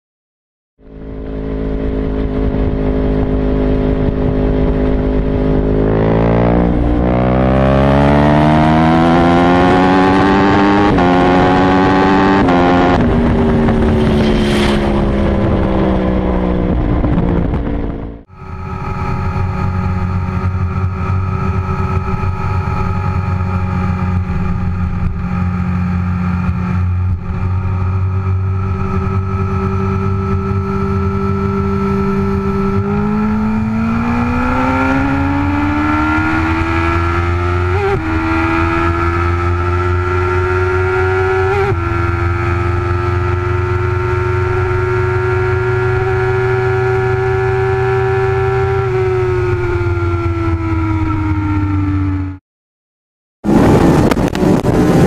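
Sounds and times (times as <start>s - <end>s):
engine accelerating: 0.8s - 52.4s, 53.4s - 55.0s
motorcycle engine cruising: 0.8s - 52.4s, 53.4s - 55.0s.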